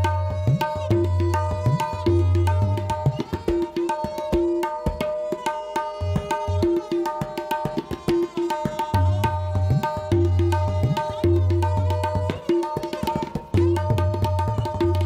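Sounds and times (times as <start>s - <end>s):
ringing tabla strokes: 0.0s - 15.0s.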